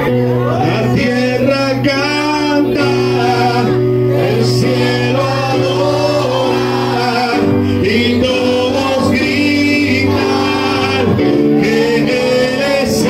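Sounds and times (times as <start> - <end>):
sustained instrumental chords: 0.0 - 13.0
voices singing gospel song: 0.0 - 13.0.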